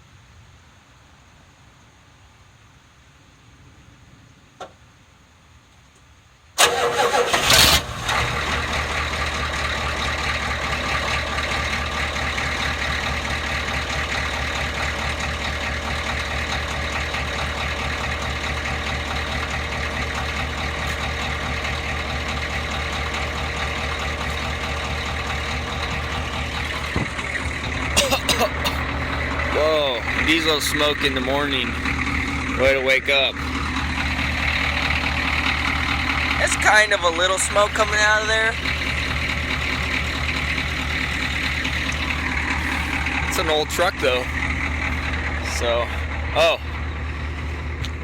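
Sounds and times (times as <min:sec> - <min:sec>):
diesel engine idling: 0:06.6 - 0:48.0
engine starter cranking: 0:06.6 - 0:48.0.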